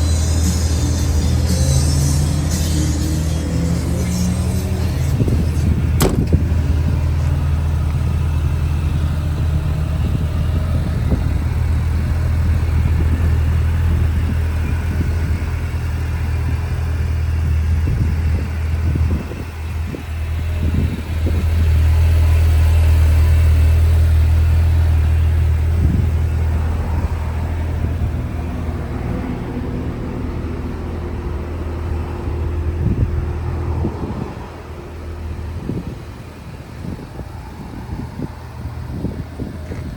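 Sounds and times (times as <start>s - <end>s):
vehicle engine low hum: 0.0s - 39.9s.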